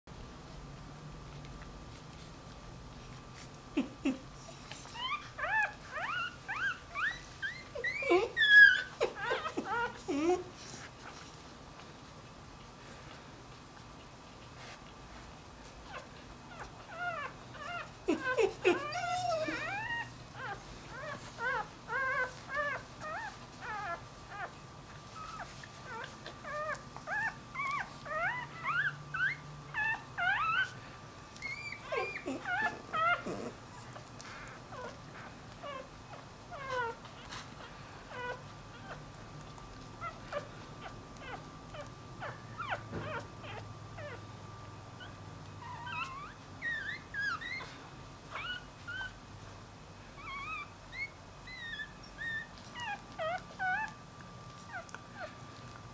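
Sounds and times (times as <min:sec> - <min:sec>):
puppy squeaking and whimpering: 0:03.4 - 0:11.2, 0:15.8 - 0:44.2, 0:45.0 - 0:49.2, 0:50.1 - 0:55.4.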